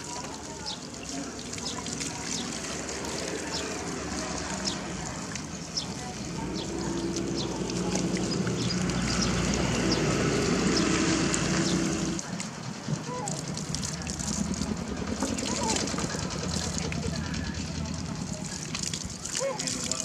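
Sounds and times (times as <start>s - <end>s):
hose water splashing into tub: 0.0s - 20.0s
steady motor hum: 0.0s - 20.0s.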